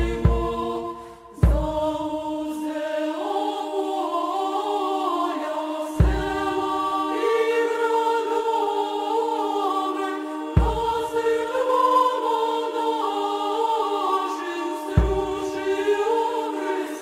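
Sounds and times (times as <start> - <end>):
choir chanting: 0.0 - 17.0.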